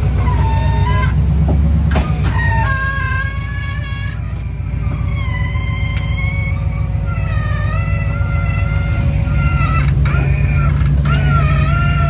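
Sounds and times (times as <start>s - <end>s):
high-pitched squeals: 0.0s - 1.3s, 2.0s - 12.0s
engine running: 0.0s - 12.0s.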